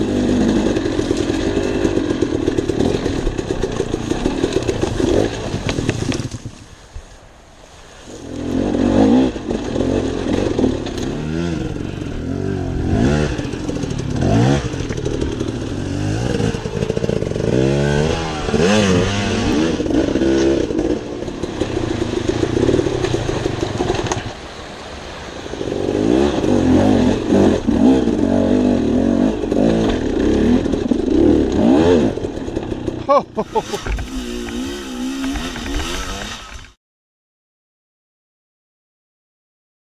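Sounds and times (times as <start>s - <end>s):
dirt bike engine revving: 0.0s - 6.3s, 8.1s - 24.4s, 25.4s - 36.8s.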